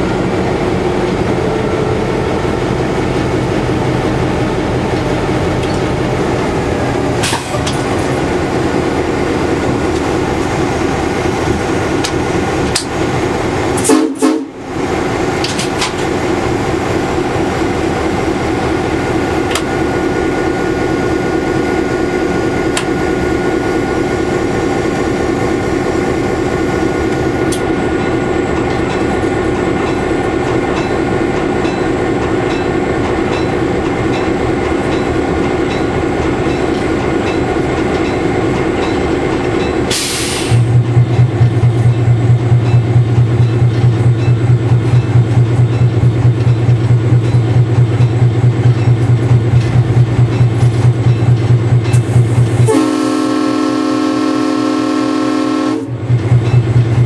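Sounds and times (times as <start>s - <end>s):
diesel locomotive engine: 0.0s - 57.0s
train track noise: 0.0s - 57.0s.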